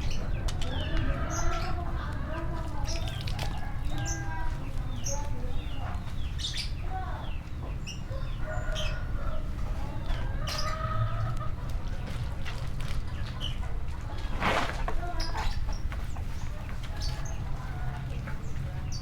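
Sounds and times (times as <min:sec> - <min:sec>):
chickens clucking: 0:00.0 - 0:19.0
small birds chirping: 0:00.0 - 0:19.0.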